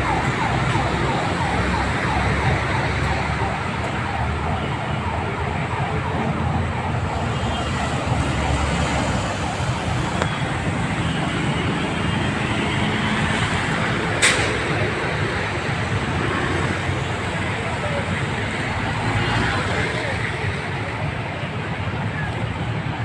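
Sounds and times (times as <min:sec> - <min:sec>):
traffic engines rumbling: 0:00.0 - 0:23.0.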